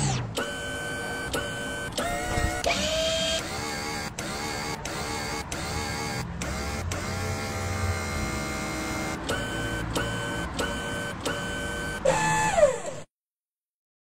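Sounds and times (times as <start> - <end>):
man imitating machine whirring: 0.0 - 13.1
short buzzing pulses: 0.0 - 13.1.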